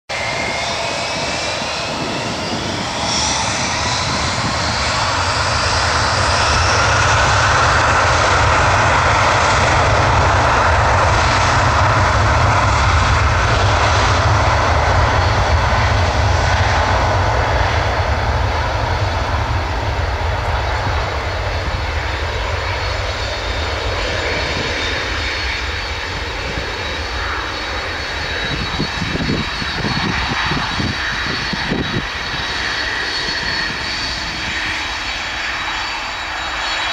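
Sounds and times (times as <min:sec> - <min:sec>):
jet engines spooling up: 0:00.1 - 0:36.9.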